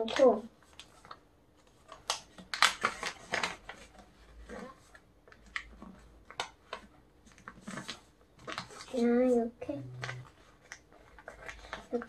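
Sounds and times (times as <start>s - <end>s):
paper crackles: 0.0s - 12.0s
paper rustling and crinkling: 0.0s - 12.0s.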